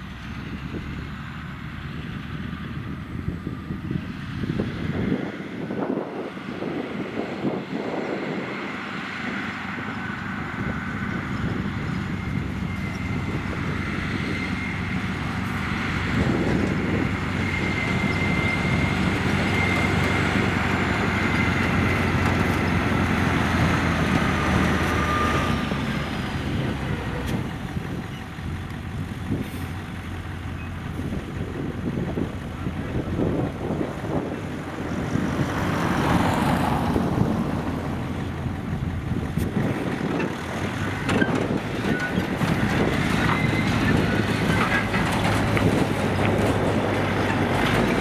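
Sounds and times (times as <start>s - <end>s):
diesel machinery whining: 0.0s - 48.0s.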